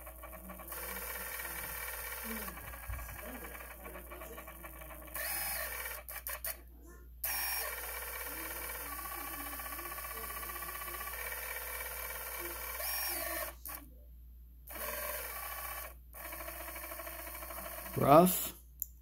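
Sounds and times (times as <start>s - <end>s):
drone motor buzzing hum: 0.0s - 6.4s, 7.2s - 13.8s, 14.7s - 18.0s.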